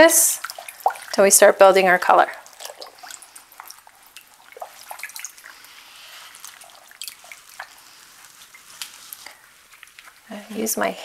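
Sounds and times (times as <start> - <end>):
liquid dripping into plastic tub: 0.3 - 10.2.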